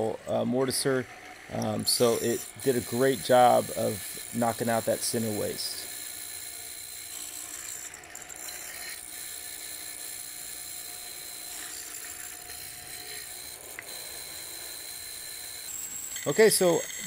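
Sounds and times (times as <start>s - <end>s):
mortiser running with high tone: 0.0s - 17.0s.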